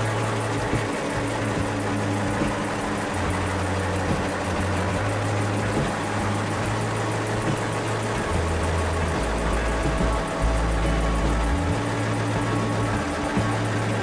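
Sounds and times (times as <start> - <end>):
diesel generator engine running: 0.0 - 14.0.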